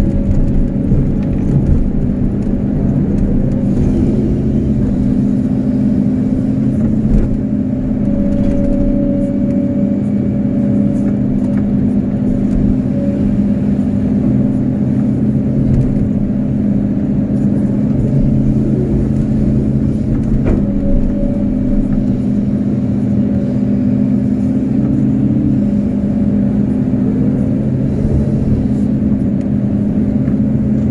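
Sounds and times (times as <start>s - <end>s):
excavator diesel engine drone: 0.0s - 30.9s.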